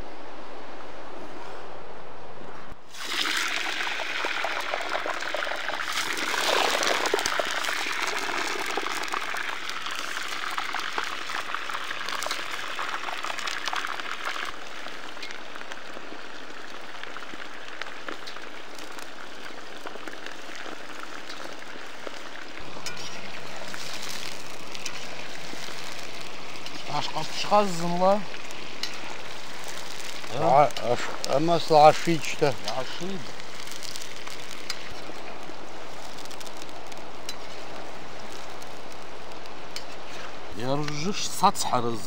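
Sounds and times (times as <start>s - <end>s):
food sizzling in a pot: 2.8s - 42.0s.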